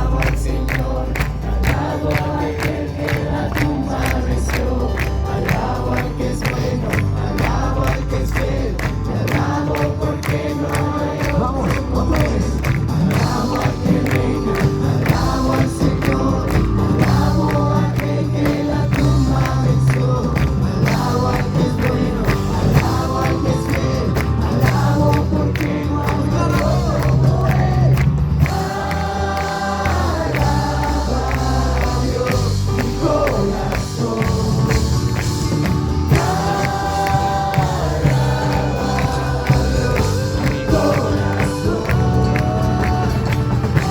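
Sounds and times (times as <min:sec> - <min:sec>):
bass line: 0:00.0 - 0:43.9
drum beat: 0:00.0 - 0:43.9
group singing with band: 0:00.0 - 0:43.9.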